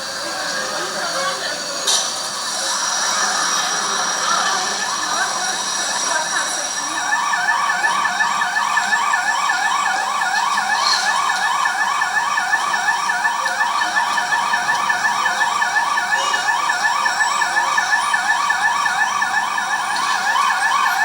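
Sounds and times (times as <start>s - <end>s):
emergency vehicle siren yelping: 0.0s - 21.0s.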